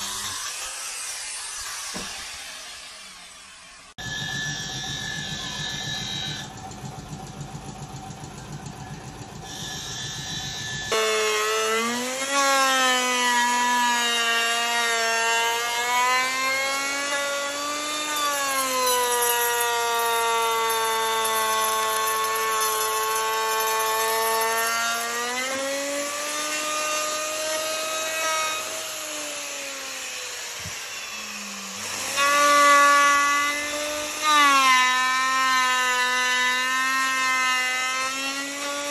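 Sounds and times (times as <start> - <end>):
electric router cutting wood: 0.0 - 8.2, 8.8 - 38.9
rough power tool noise: 0.0 - 8.2, 8.8 - 38.9.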